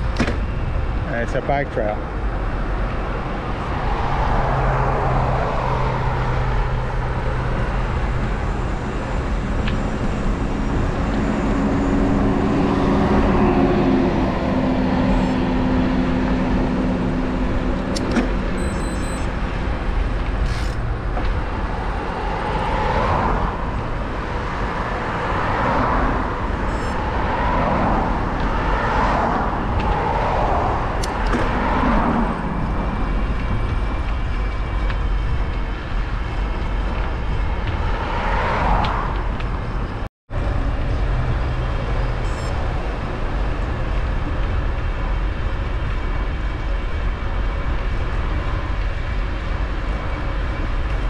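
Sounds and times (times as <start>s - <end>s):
car tyre and engine noise: 0.0s - 51.0s.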